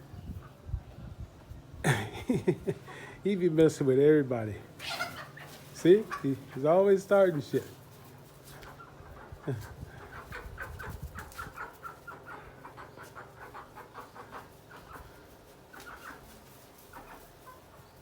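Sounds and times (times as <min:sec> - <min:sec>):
chickens clucking: 0:00.0 - 0:00.8, 0:01.8 - 0:18.0.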